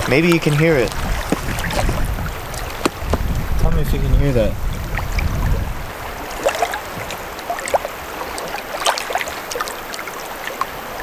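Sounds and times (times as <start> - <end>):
light rain on lake surface: 0.0 - 11.0.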